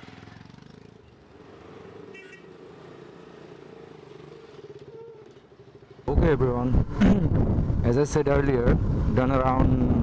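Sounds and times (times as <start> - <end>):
motorcycle engines droning: 0.0 - 10.0.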